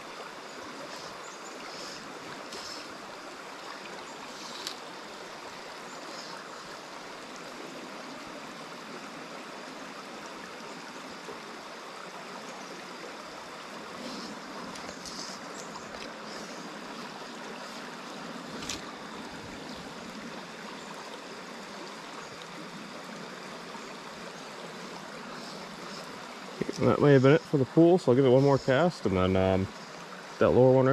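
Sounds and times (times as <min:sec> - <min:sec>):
stream water flowing: 0:00.0 - 0:30.9.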